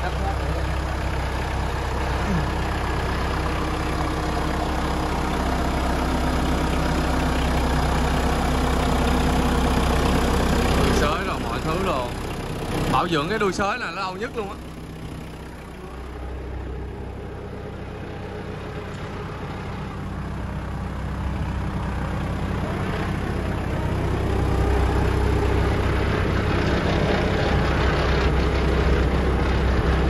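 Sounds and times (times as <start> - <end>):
diesel tractor engine idling: 0.0 - 30.0.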